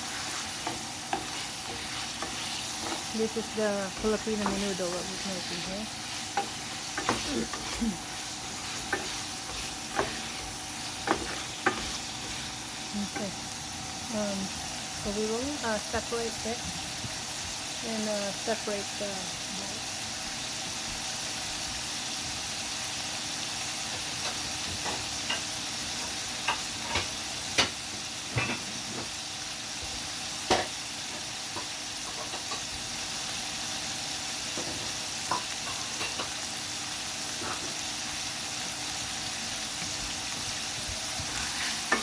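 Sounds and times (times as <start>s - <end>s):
meat sizzling in oil: 0.0s - 42.0s.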